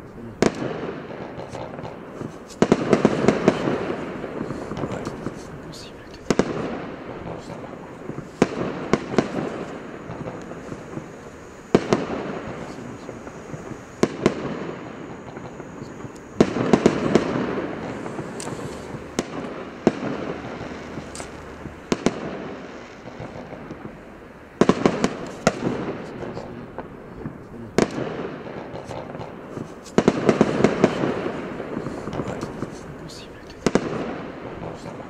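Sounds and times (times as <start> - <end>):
fireworks reports: 0.0 - 35.0
hiss and crackle of bursting stars: 0.0 - 35.0.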